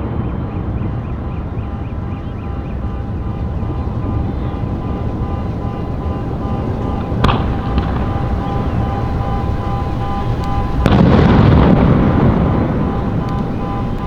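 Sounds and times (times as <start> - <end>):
fireworks booms rumbling: 0.0 - 14.0.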